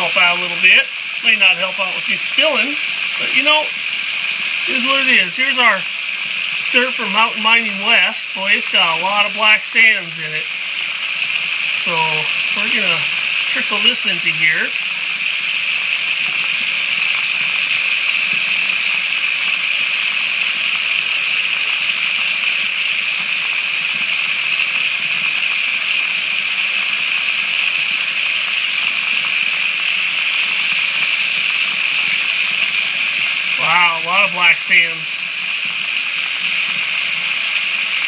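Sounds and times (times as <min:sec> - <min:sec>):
tap water pouring into plastic tub: 0:00.0 - 0:34.2.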